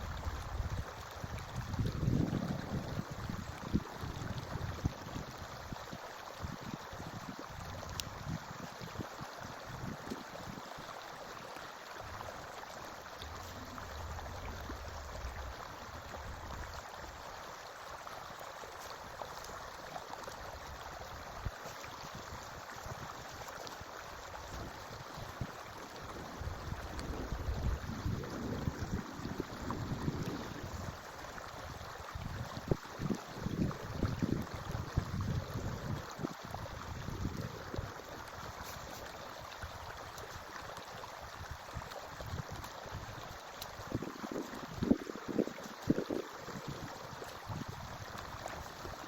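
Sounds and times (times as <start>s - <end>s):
stream babbling: 0.0s - 49.0s.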